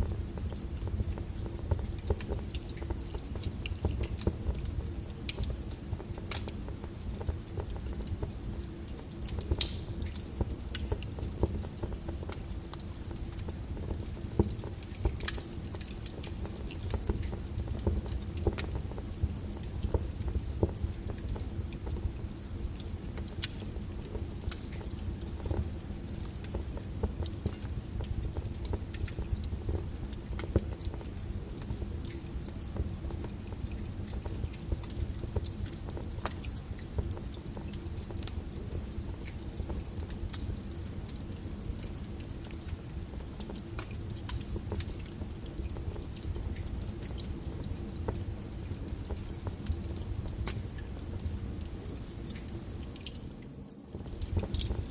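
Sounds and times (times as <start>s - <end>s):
fire crackling and popping: 0.0s - 54.9s.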